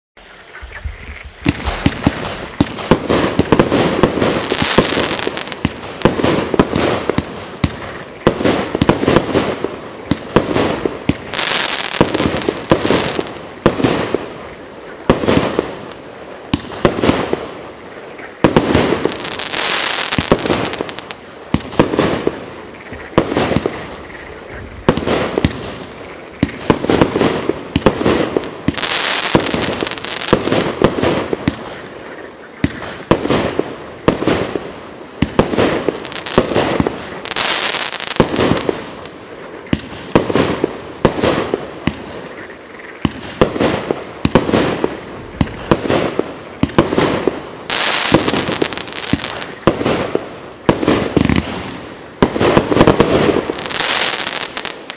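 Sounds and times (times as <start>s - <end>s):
crackle of bursting firework stars: 0.3s - 54.9s
firework bangs: 1.4s - 17.6s, 18.2s - 54.9s.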